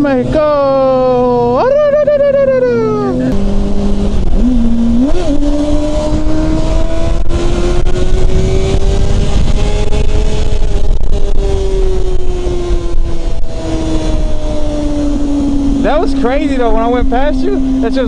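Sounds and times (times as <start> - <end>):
motorcycle engine at high revs: 3.1 - 18.0
wind rush on microphone: 3.2 - 18.0.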